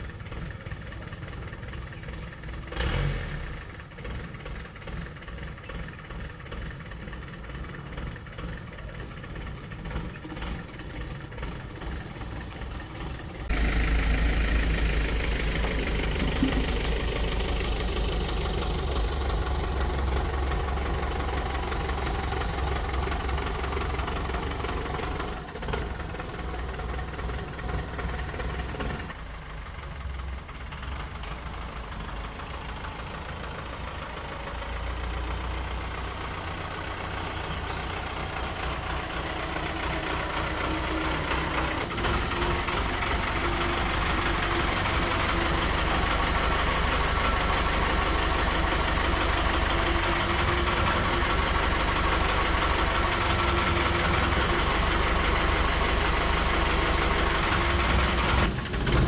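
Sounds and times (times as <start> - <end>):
engine rumbling: 0.0 - 59.0.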